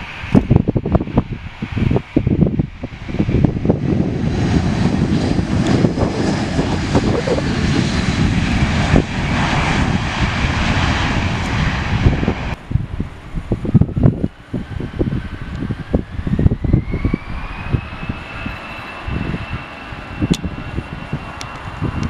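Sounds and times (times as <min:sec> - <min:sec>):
jet engine rush: 0:00.0 - 0:22.0
wind buffeting microphone: 0:00.0 - 0:22.0.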